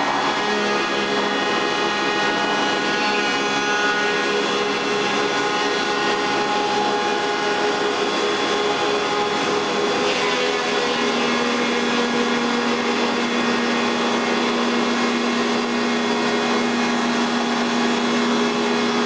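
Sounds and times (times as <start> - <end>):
woodworking machine whining: 0.0 - 19.0.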